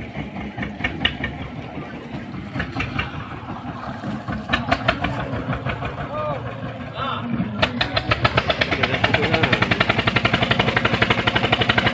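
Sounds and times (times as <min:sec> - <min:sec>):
engine running at low pitch: 0:00.0 - 0:11.9.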